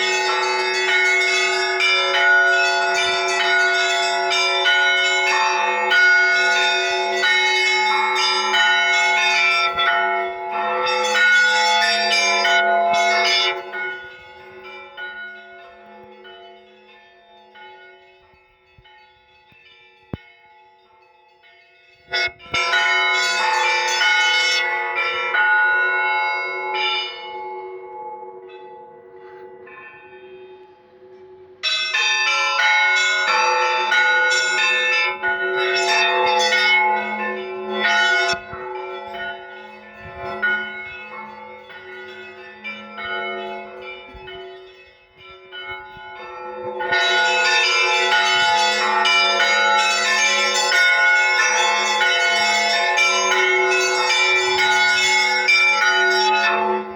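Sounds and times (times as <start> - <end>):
hum of large bells: 0.0 - 56.9
small church bells rung rapidly: 0.0 - 56.9.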